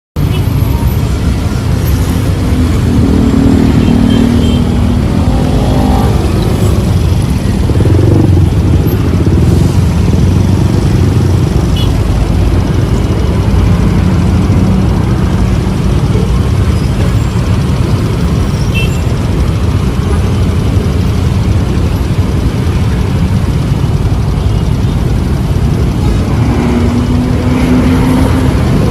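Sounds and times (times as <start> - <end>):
engine hum: 0.2 - 28.9
road traffic rumble: 0.2 - 28.9.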